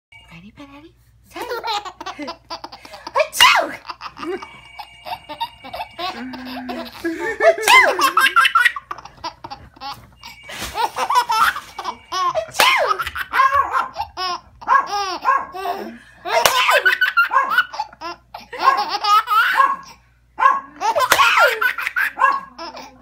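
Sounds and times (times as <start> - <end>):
baby laughing: 1.4 - 20.0, 20.8 - 23.0.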